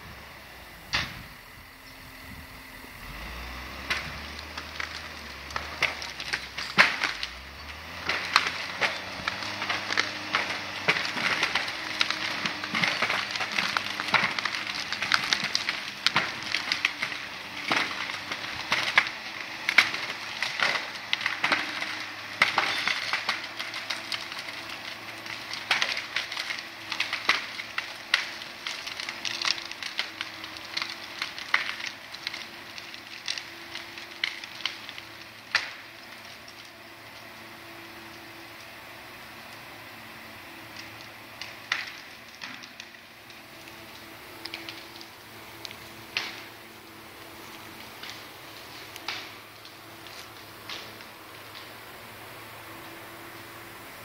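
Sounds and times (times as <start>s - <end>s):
diesel engine working under load: 0.0s - 54.0s
branches crackling and snapping: 0.2s - 54.0s.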